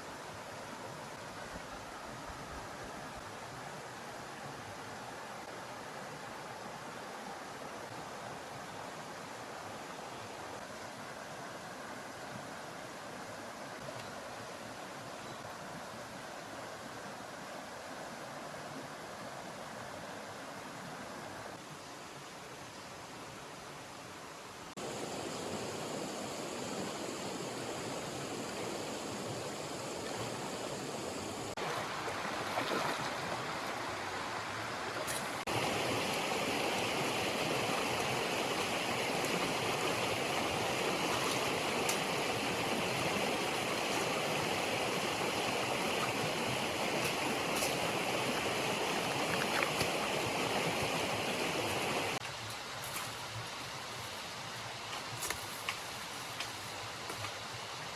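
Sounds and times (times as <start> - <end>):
stream water rushing: 0.0 - 22.6, 23.2 - 57.9.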